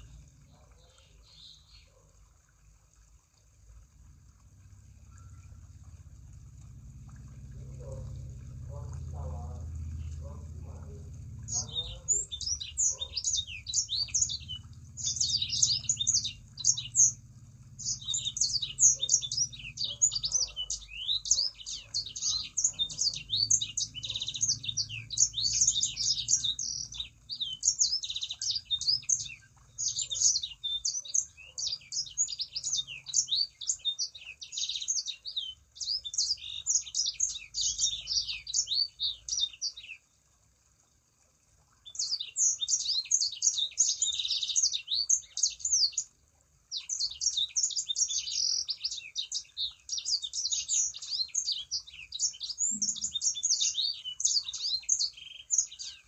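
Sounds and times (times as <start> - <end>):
songbird twittering: 7.1 - 17.2, 17.8 - 40.0, 41.8 - 46.1, 46.7 - 56.0.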